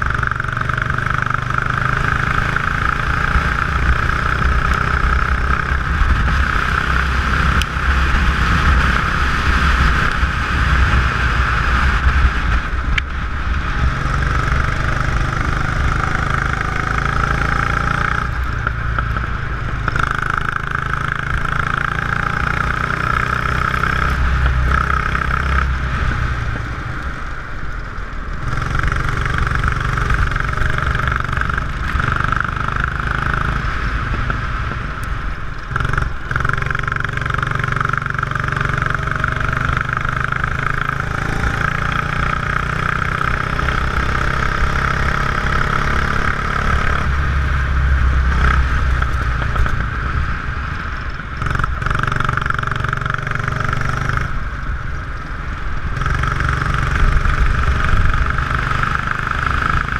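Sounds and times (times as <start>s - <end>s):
go-kart engine racing: 0.0s - 59.9s
wind noise: 0.0s - 59.9s.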